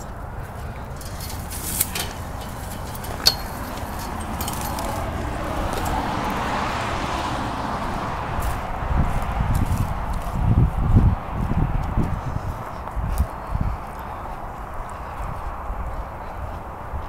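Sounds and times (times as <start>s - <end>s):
footsteps on dry grass and gravel: 0.0s - 6.5s, 7.8s - 17.0s.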